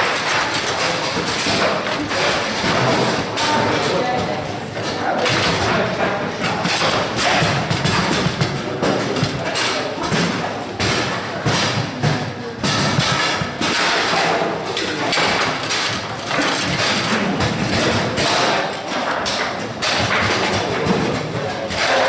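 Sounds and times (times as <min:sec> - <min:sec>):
table football rods banging: 0:00.0 - 0:22.0.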